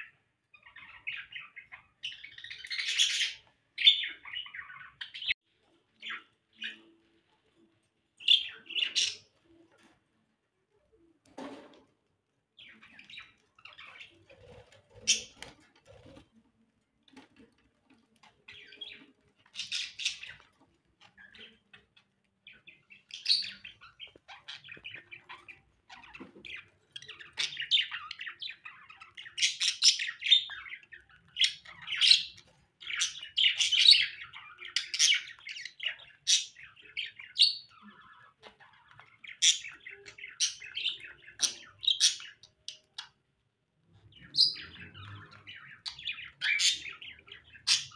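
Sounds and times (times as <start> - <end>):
small parrots chirping and squawking: 0.0 - 7.3, 8.1 - 10.2, 12.5 - 47.9.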